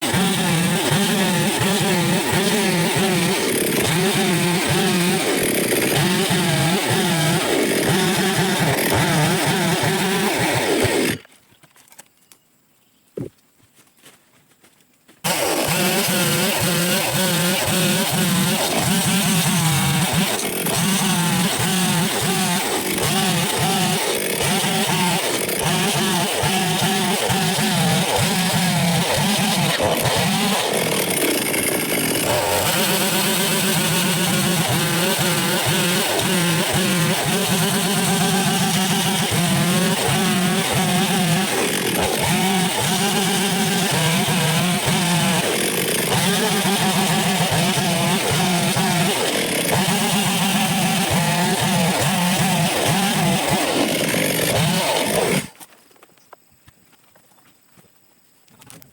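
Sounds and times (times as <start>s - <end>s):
chainsaw engine running: 0.0s - 11.3s, 15.2s - 55.7s.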